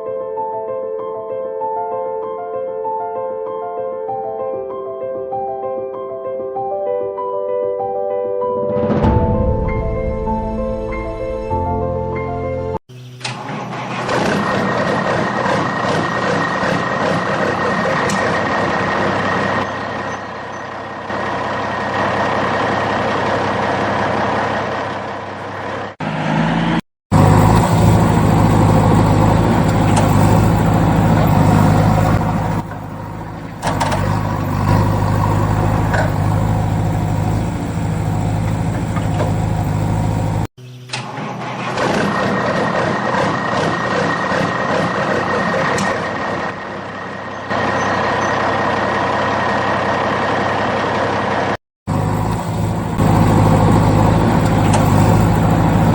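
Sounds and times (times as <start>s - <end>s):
heavy vehicle engine running: 9.9s - 55.9s.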